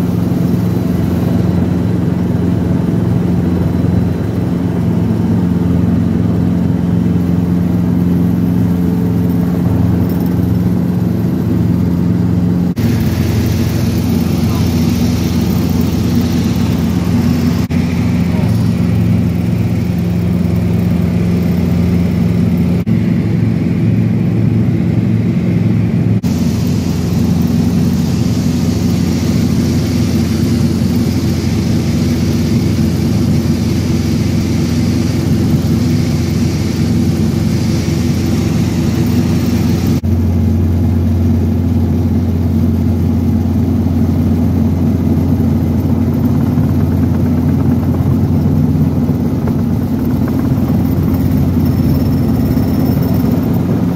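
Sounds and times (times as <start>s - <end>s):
helicopter engine and rotors: 0.0s - 53.9s.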